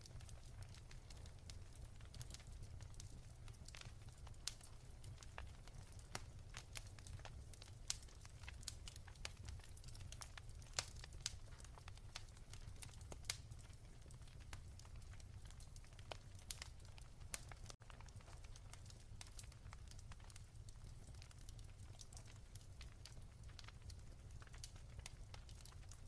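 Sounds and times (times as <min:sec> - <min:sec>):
wood fire crackling softly: 0:00.0 - 0:26.0.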